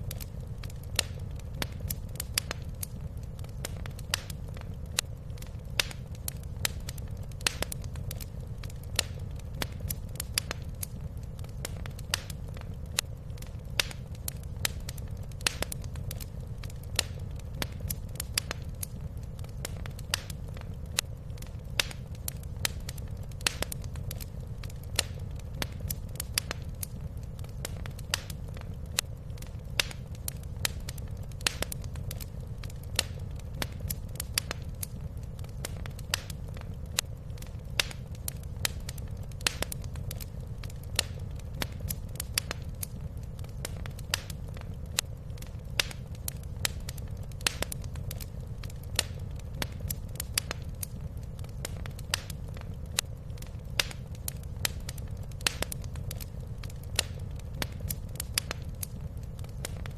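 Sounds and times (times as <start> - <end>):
fire popping and snapping: 0.0 - 59.9
low rumble of burning fire: 0.0 - 59.9.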